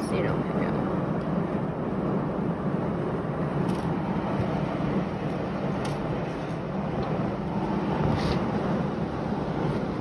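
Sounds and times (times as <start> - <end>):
storm wind rumbling: 0.0 - 10.0.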